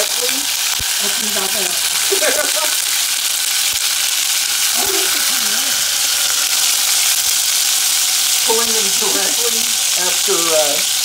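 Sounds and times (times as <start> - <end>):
chilies sizzling in a skillet: 0.0 - 11.0.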